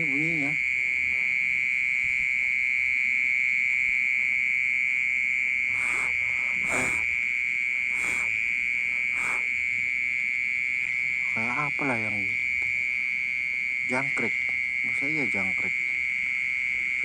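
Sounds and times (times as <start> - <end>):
high-pitched ringing drone: 0.0 - 17.0.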